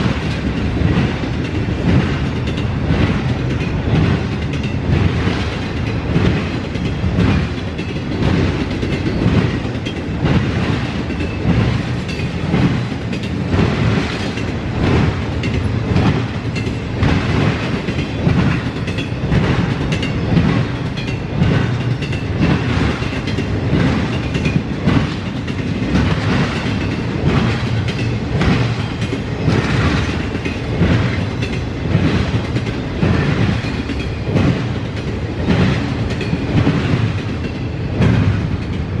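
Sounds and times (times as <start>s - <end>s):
freight train wheels clacking: 0.0s - 39.0s.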